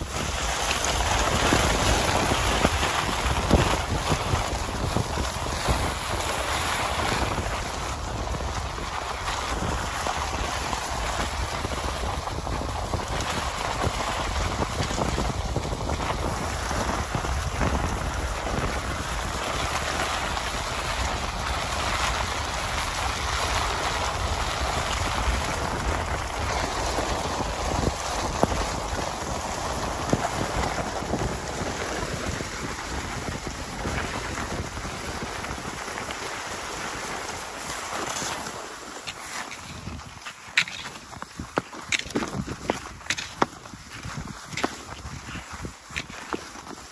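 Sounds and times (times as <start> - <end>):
skis hissing over snow: 0.0 - 46.9
wind buffeting microphone: 0.0 - 46.9.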